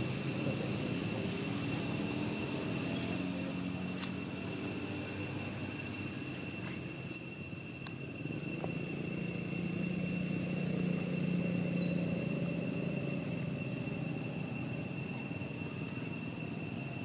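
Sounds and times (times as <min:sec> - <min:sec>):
distant vehicle engine rumble: 0:00.0 - 0:17.0
steady high-pitched tone: 0:00.0 - 0:17.0.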